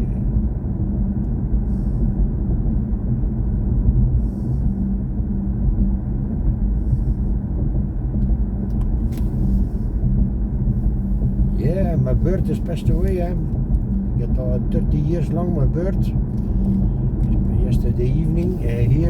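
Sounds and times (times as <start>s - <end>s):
road and tyre rumble: 0.0s - 19.0s.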